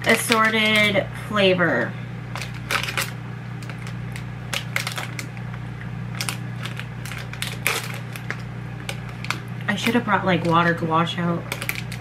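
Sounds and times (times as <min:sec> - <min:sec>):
plastic wrapper crinkling: 0:00.0 - 0:01.1, 0:02.3 - 0:10.8, 0:11.4 - 0:12.0
low steady hum: 0:00.0 - 0:12.0.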